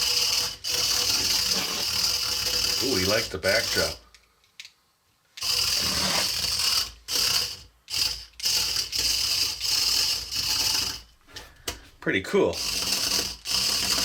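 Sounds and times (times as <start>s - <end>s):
toy motors and gears whirring: 0.0s - 4.7s, 5.3s - 14.0s.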